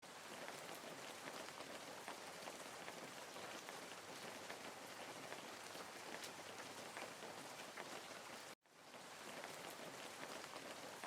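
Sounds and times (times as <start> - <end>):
garden fountain splashing into pond: 0.0 - 11.0.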